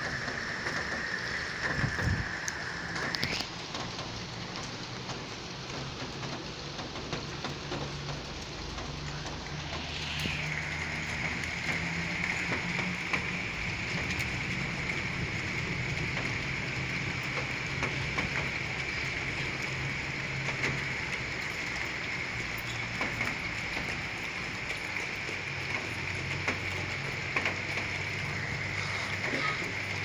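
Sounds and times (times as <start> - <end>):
heavy rain hissing: 0.0 - 30.0
raindrops ticking on surfaces: 0.0 - 30.0.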